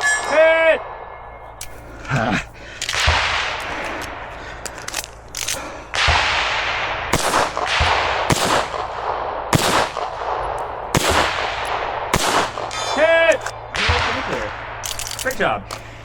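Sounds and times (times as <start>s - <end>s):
echoing gunshots: 2.6s - 16.0s.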